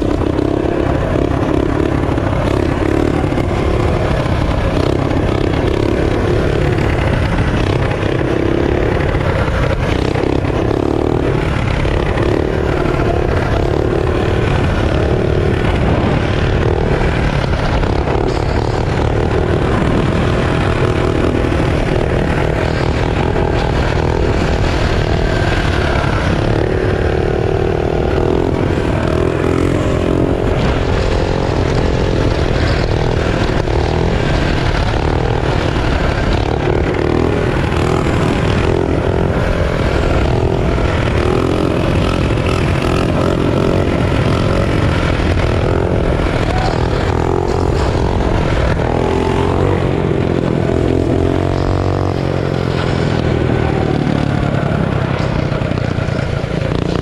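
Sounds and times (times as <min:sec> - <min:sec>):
mini bike engine running: 0:00.0 - 0:57.0.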